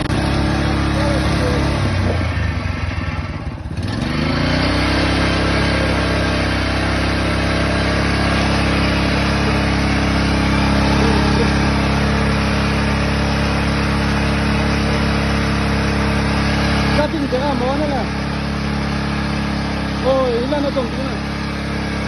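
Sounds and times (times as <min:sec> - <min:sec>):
drilling machine engine running: 0:00.0 - 0:22.0.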